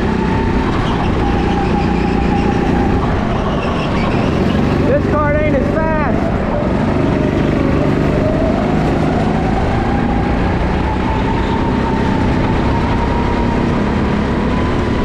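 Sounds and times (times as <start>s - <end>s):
constant rumble: 0.0s - 15.0s
go-kart engine whine: 0.0s - 15.0s.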